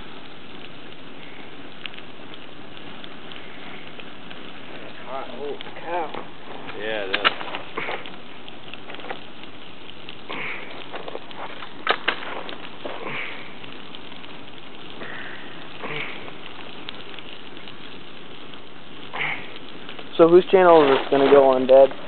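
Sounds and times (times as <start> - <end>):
fire burning: 0.0 - 22.0
fire crackling and popping: 0.0 - 22.0.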